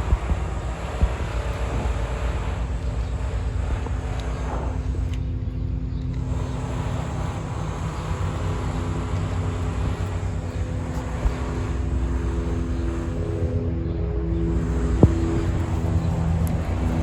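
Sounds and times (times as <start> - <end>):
background rumble: 0.0 - 17.0
low mechanical hum: 0.0 - 17.0.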